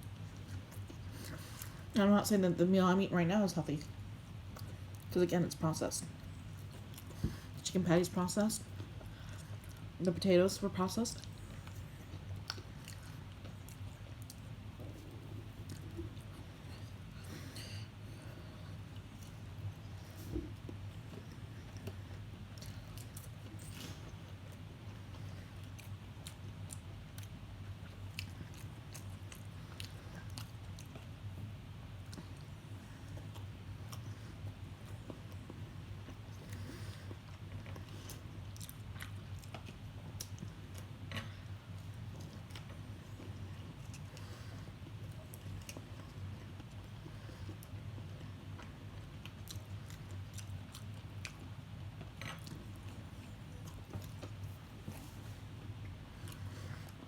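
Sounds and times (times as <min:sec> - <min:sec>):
steady low hum: 0:00.0 - 0:57.0
person chewing crispy fried food: 0:11.2 - 0:57.0.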